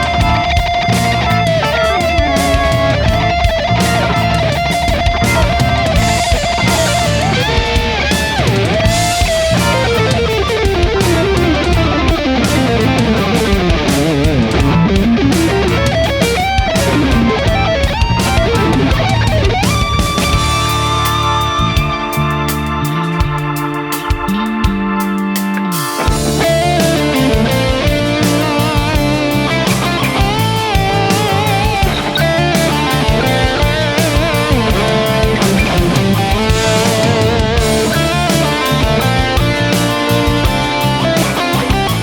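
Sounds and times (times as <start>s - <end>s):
bass: 0.0s - 42.0s
electric guitar solo: 0.0s - 42.0s
programmed drums: 0.0s - 42.0s
sustained keyboard chord: 0.0s - 42.0s.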